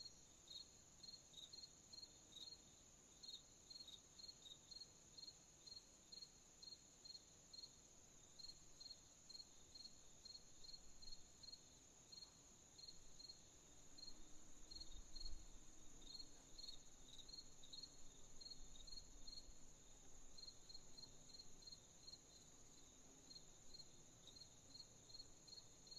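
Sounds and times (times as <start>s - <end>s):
crickets chirping: 0.0s - 25.9s.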